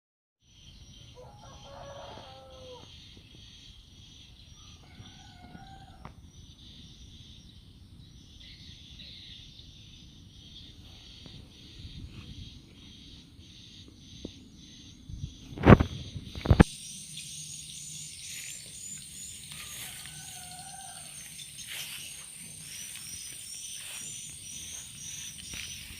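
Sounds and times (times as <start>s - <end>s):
insect chorus: 0.4s - 25.9s.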